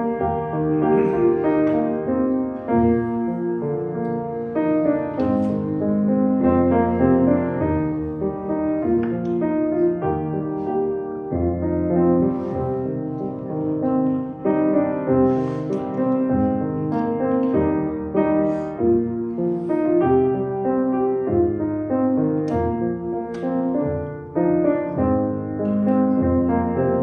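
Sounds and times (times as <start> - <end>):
slow piano music: 0.0 - 27.0.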